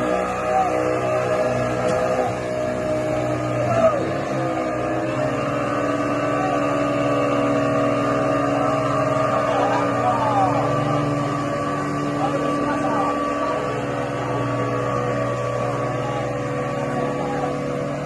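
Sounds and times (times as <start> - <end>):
engine running under load: 0.0 - 18.0.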